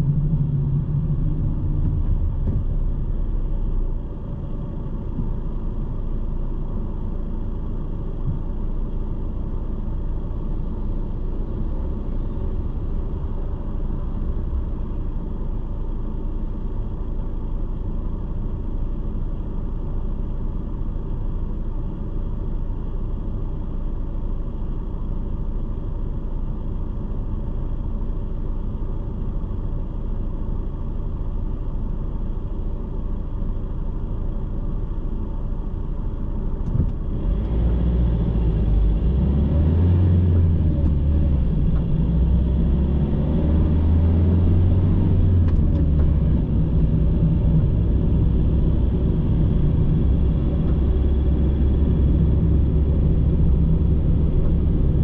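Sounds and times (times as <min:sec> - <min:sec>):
car engine idling: 0:00.0 - 0:43.3, 0:44.0 - 0:55.0.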